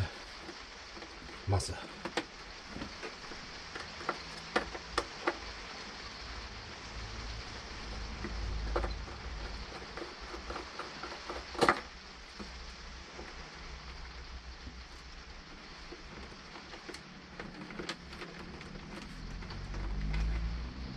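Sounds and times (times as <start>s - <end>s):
rain on a caravan roof: 0.0s - 20.9s.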